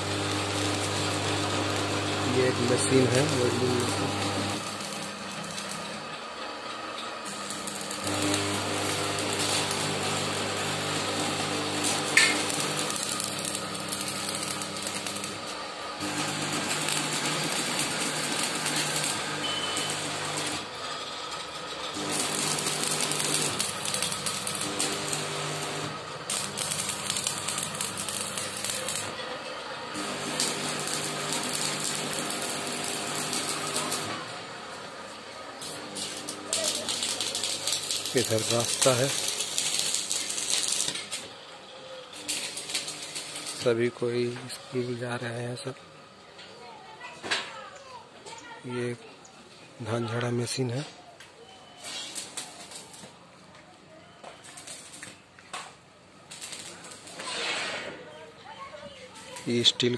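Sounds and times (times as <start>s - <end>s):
welding arc crackling and hissing: 0.0s - 29.2s, 29.9s - 41.4s, 42.0s - 45.7s, 51.8s - 53.2s, 54.4s - 58.0s, 59.1s - 59.9s
welding machine humming: 0.0s - 46.2s, 51.8s - 53.5s, 54.2s - 59.9s.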